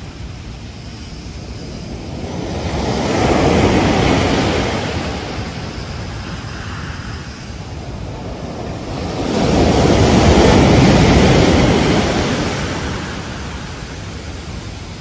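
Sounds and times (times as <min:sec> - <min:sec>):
ocean wave breaking: 0:01.9 - 0:15.0.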